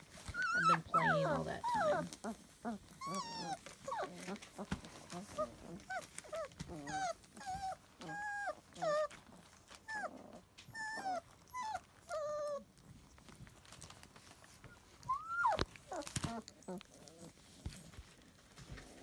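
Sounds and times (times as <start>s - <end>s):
puppies whimpering and yelping: 0.1s - 17.7s.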